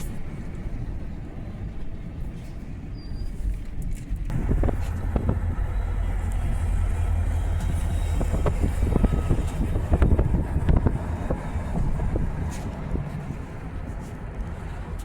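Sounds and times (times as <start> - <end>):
freight train cars rolling: 0.0 - 15.0.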